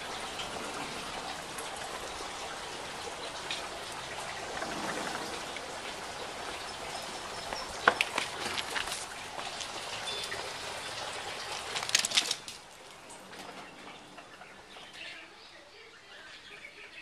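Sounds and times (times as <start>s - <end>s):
pool water trickling and splashing: 0.0s - 16.3s.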